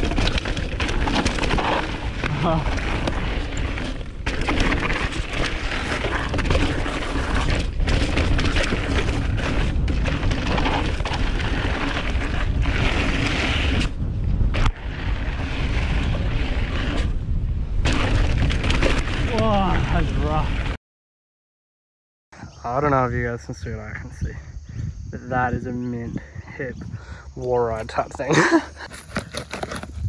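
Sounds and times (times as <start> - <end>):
bike tyres on dirt trail: 0.0 - 20.8, 24.1 - 30.0
wind rushing over microphone: 0.0 - 20.8, 22.4 - 28.9.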